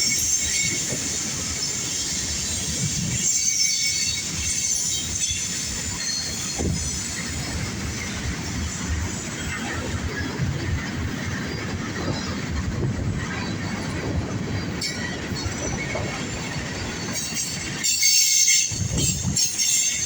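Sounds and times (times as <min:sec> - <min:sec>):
clickety-clack over rail joints: 0:00.0 - 0:20.0
freight train rumbling past: 0:00.0 - 0:20.0.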